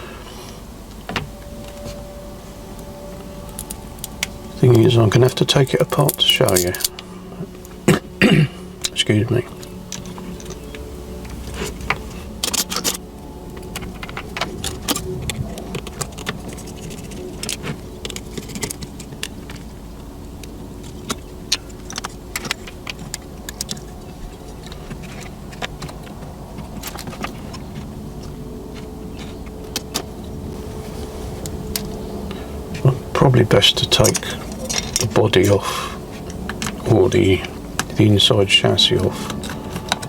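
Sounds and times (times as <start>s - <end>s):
steady background hum: 0.0s - 40.0s.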